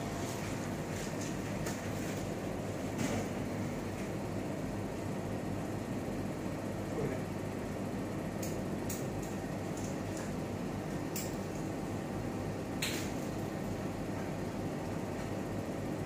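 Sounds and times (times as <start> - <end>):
low equipment hum: 0.0 - 16.0.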